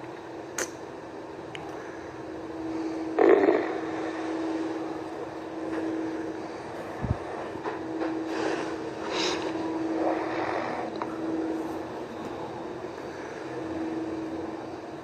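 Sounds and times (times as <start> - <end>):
steady mechanical drone: 0.0 - 15.0.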